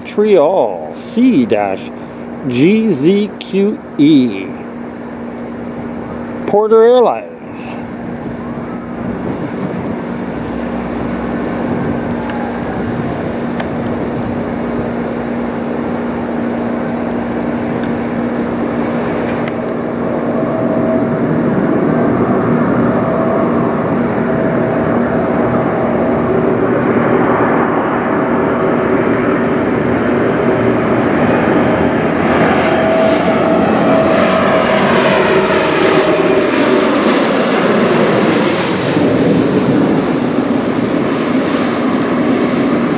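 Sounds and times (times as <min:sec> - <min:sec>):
jet airliner flying overhead: 0:00.0 - 0:42.9.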